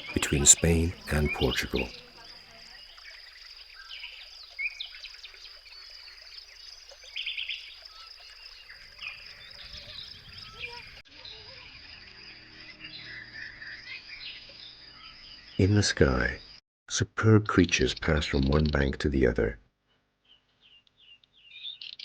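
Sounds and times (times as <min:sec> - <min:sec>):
birds chirping and calling: 0:00.0 - 0:16.6, 0:20.3 - 0:22.0.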